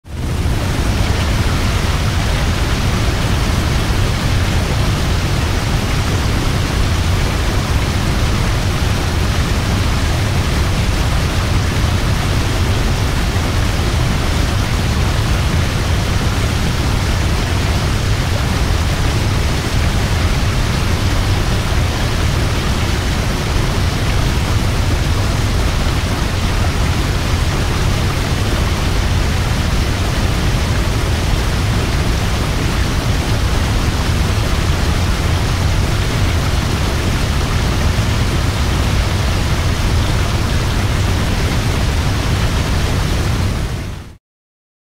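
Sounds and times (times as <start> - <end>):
waterfall rushing: 0.1 - 44.2.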